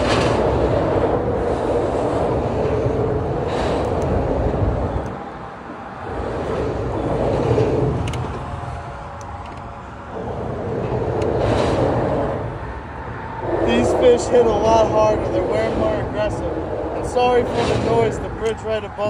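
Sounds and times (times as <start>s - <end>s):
road traffic on bridge overhead: 0.0s - 19.0s.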